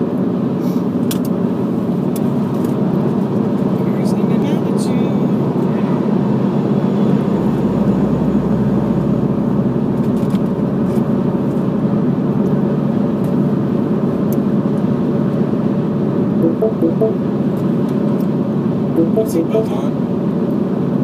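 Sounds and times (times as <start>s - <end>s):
road and engine noise in car cabin: 0.0s - 21.0s.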